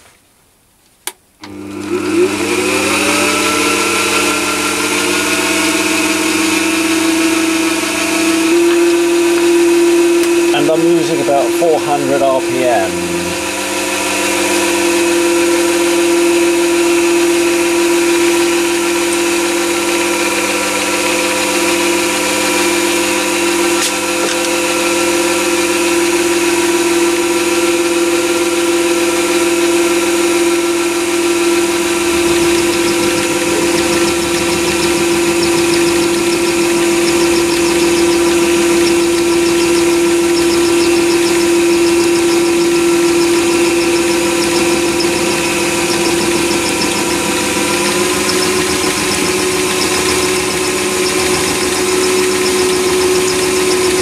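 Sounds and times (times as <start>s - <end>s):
lathe drive whining: 1.4s - 54.0s.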